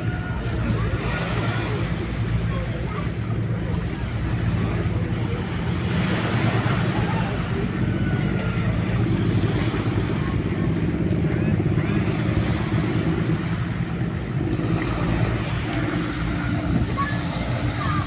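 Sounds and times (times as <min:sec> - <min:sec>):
ship diesel engine droning: 0:00.0 - 0:18.0
water washing: 0:00.0 - 0:18.0.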